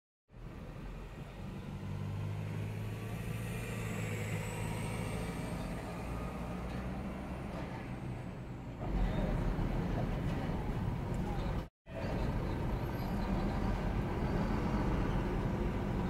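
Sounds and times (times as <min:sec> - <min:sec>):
street traffic noise: 0:00.3 - 0:16.0
bus diesel engine droning: 0:00.4 - 0:16.0.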